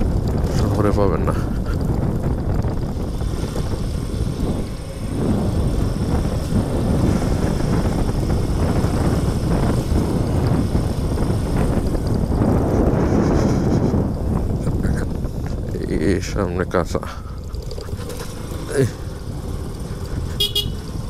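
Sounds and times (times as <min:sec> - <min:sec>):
motorcycle engine and road noise: 0:00.0 - 0:21.0
wind buffeting microphone: 0:00.0 - 0:21.0.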